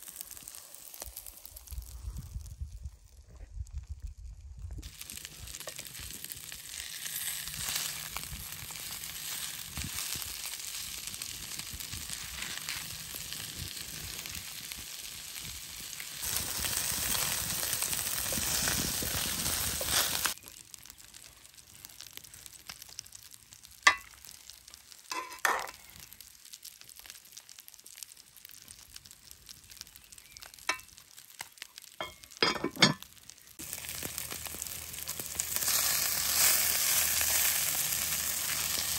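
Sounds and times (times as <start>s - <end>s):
fish sizzling in a pan: 0.0s - 2.5s, 4.8s - 38.9s.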